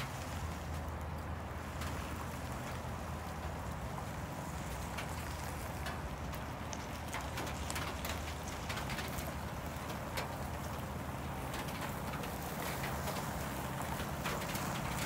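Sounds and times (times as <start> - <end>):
rain falling: 0.0 - 15.0
drops ticking on a surface: 1.1 - 15.0.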